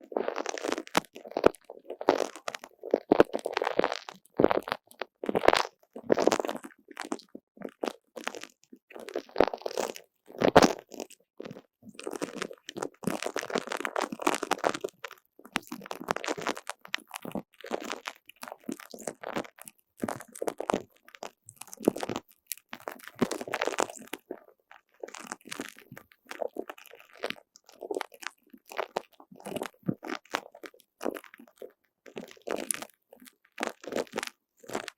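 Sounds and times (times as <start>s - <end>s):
squishy toy squelching: 0.1s - 34.9s.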